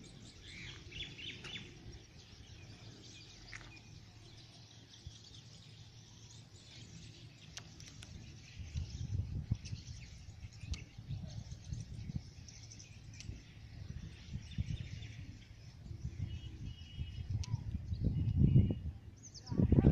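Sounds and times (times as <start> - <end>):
faint birds chirping: 0.0 - 19.9.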